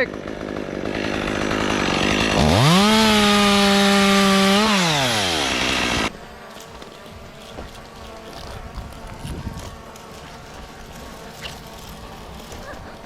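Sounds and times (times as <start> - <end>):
chainsaw idling and revving: 0.0 - 13.0.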